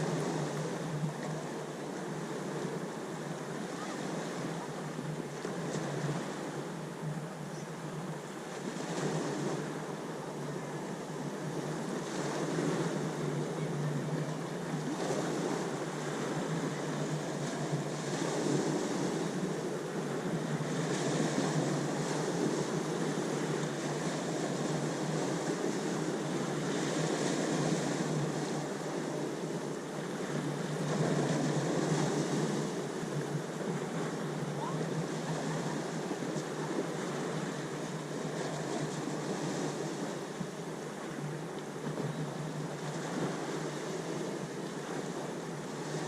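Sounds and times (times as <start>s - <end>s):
ocean waves breaking: 0.0s - 7.2s, 8.0s - 46.0s.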